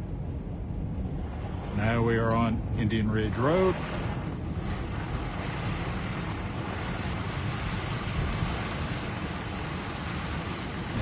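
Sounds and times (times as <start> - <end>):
low engine hum: 0.0 - 11.0
tyres and wind rushing: 0.0 - 11.0.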